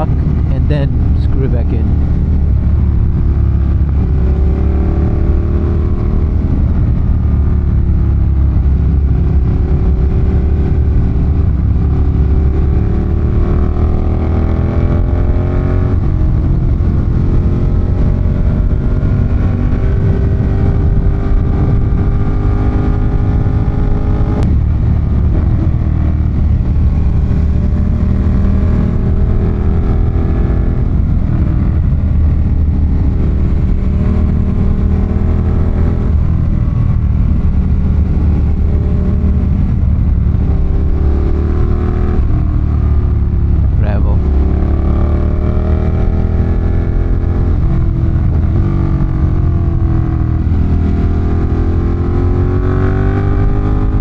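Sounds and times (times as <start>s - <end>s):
motorcycle engine accelerating: 0.0s - 54.0s
wind and road rush: 0.0s - 54.0s.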